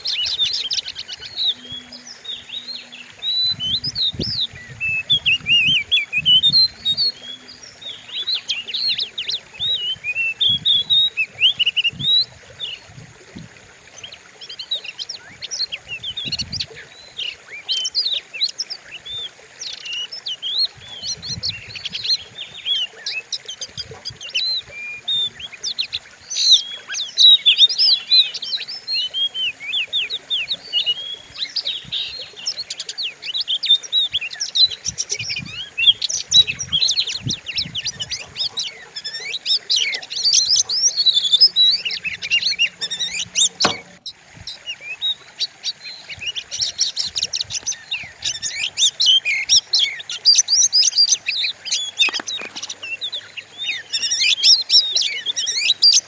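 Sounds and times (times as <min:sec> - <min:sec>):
bird singing whistles and chatter: 0:00.0 - 0:12.9, 0:14.1 - 0:56.0.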